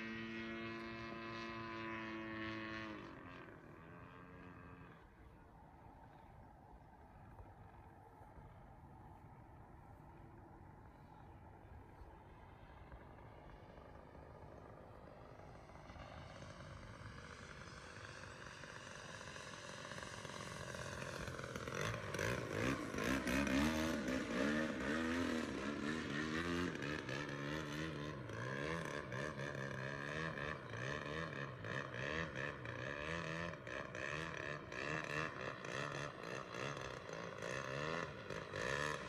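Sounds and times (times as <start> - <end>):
model plane petrol engine: 0.0 - 39.0.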